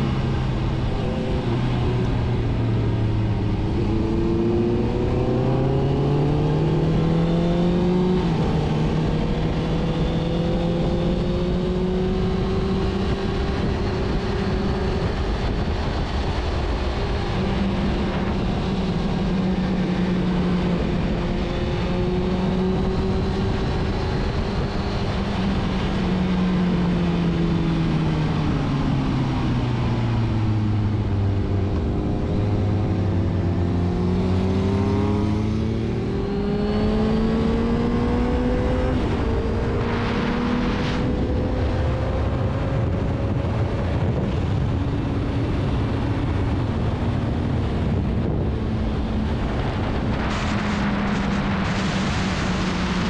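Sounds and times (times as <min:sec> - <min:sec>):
continuous rushing noise: 0:00.0 - 0:53.0
motorcycle engine: 0:00.0 - 0:53.0.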